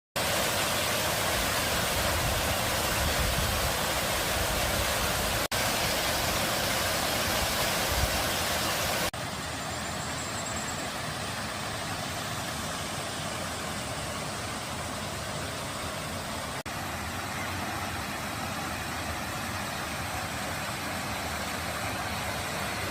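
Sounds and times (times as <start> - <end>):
water splashing and rushing: 0.2 - 9.7, 10.9 - 22.9.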